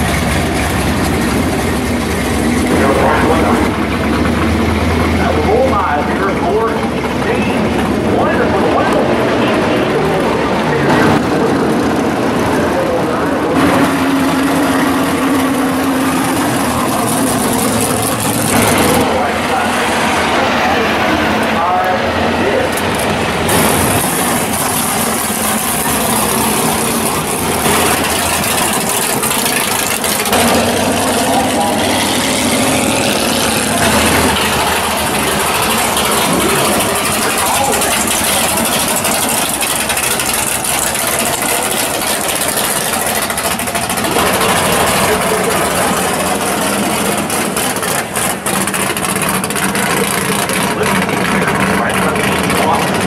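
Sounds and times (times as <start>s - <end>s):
loud car engines idling: 0.0s - 53.0s.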